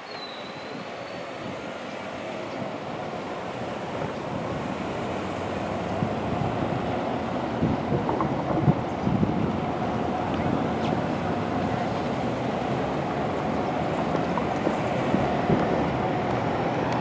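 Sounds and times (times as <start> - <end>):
road traffic: 0.0 - 17.0
wind on microphone: 0.5 - 17.0.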